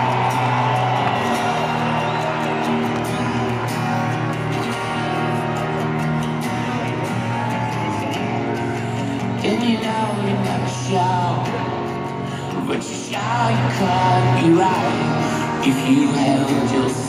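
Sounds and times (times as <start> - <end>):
live rock band with guitars: 0.0 - 17.0.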